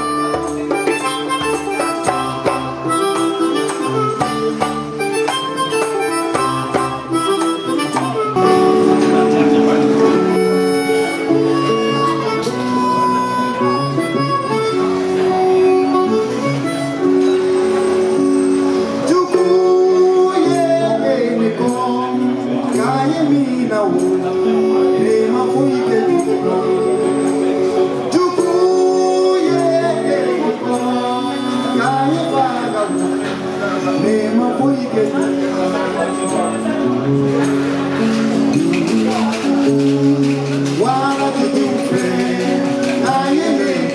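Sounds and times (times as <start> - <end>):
afropop band playing: 0.0 - 43.9
harmonica bending notes: 0.0 - 43.9
plucked string accompaniment: 0.0 - 43.9.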